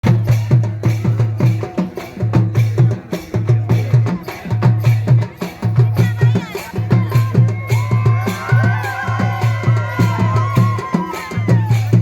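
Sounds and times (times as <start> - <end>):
folk percussion drums: 0.0 - 12.0.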